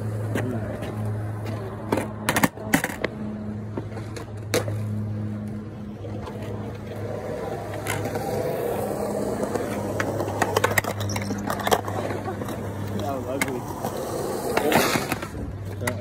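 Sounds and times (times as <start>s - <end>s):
skateboard clacks: 0.0s - 16.0s
skateboard wheels rolling on concrete: 0.0s - 16.0s.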